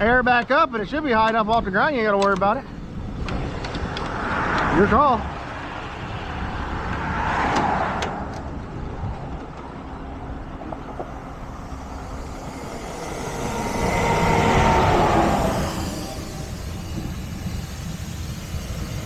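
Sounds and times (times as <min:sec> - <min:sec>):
low engine rumble: 0:00.0 - 0:19.0
vehicles passing: 0:00.0 - 0:19.0.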